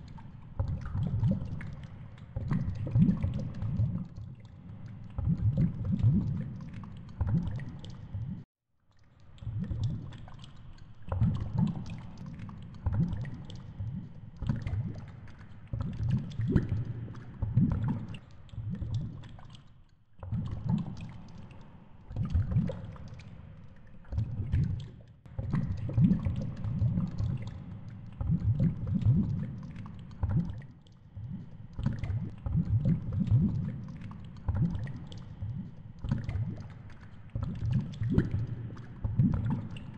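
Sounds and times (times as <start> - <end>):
muffled underwater thumps and rumbles: 0.0 - 8.4, 11.1 - 19.5, 22.1 - 23.2, 24.0 - 39.9.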